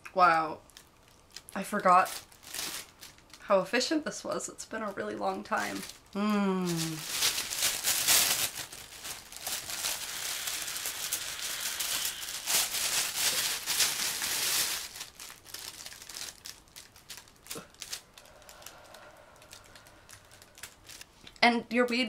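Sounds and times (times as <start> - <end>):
plastic bag crinkling: 0.6 - 3.5, 5.0 - 21.2.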